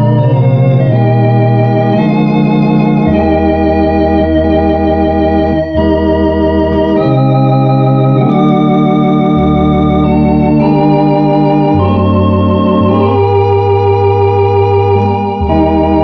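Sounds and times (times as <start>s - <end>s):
electronic organ playing a hymn: 0.0s - 16.0s.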